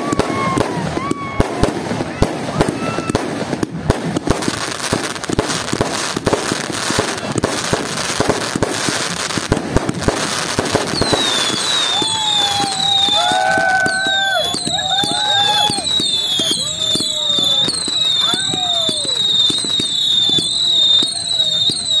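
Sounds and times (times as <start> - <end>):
fireworks bangs and crackles: 0.0 - 22.0
whistling fireworks: 0.0 - 22.0.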